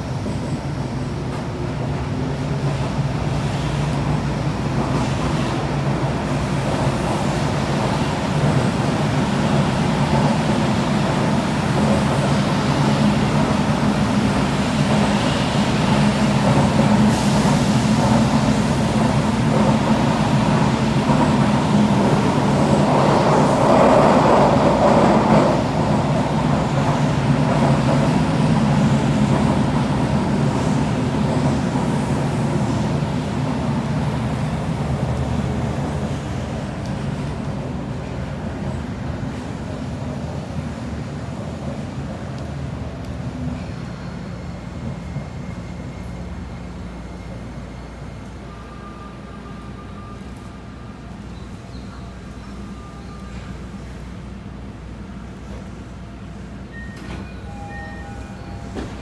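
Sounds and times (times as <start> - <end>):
subway train rumble inside car: 0.0 - 59.0.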